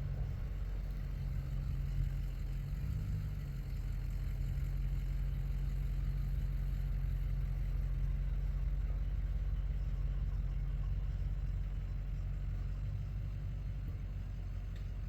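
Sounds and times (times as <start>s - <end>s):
engine running low hum: 0.0s - 15.0s.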